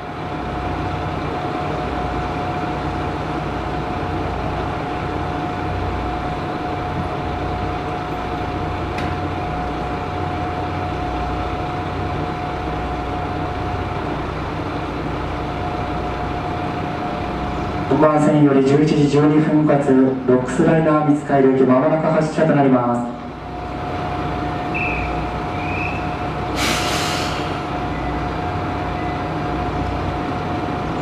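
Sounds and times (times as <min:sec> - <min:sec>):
diesel railcar idling: 0:00.0 - 0:31.0.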